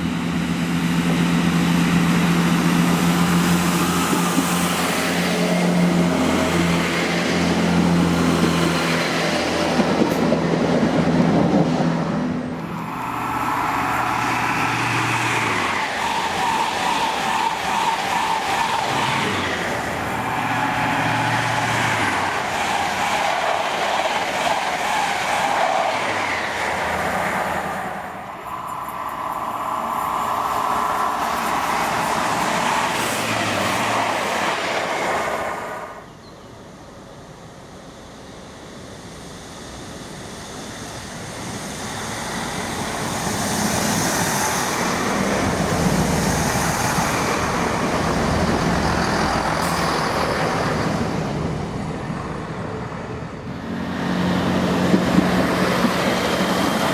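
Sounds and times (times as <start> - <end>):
train engine drone: 0.0 - 56.9
train wheels on rails: 0.0 - 56.9.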